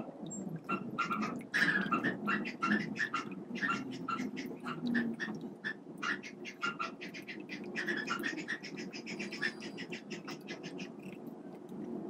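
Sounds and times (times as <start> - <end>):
birds chirping: 0.0 - 11.6.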